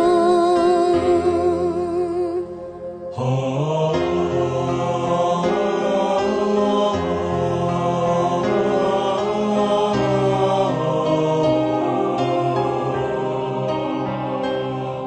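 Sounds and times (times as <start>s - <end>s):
slow devotional music: 0.0s - 15.0s.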